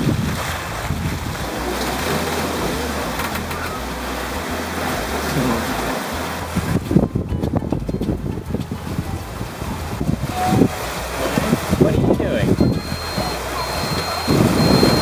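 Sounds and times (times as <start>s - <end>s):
water and wind rushing: 0.0s - 15.0s.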